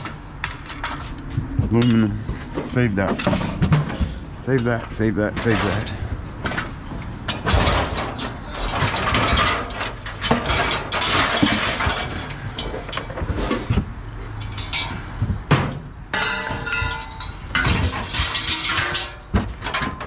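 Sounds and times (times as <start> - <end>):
scrap metal clanking and rattling: 0.0 - 20.0.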